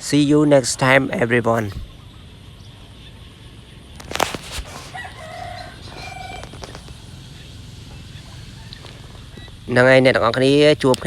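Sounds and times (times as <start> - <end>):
chickens calling: 0.0 - 11.0
hen calls: 0.5 - 11.0.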